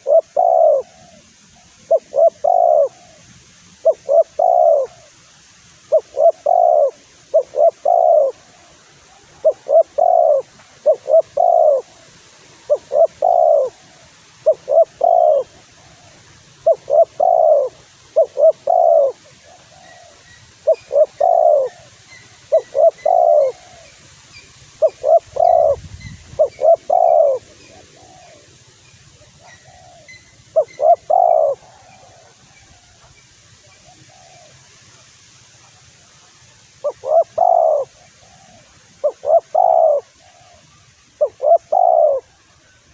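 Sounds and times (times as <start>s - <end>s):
dove cooing: 0.0s - 5.2s, 5.8s - 24.0s, 24.7s - 33.0s, 33.7s - 35.0s, 36.8s - 42.9s.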